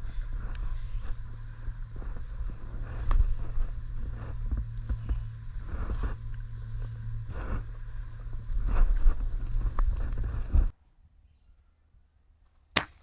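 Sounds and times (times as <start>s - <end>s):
wind rumble on microphone: 0.0s - 10.8s.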